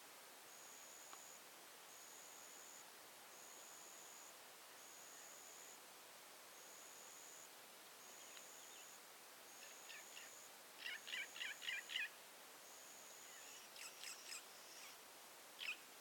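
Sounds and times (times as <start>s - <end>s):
faint bush ambience: 0.0s - 16.0s.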